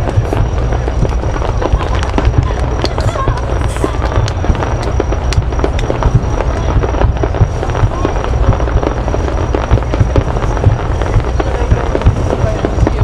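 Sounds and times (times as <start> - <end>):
fireworks bangs and crackles: 0.0 - 13.0
low rumble of booms: 0.0 - 13.0.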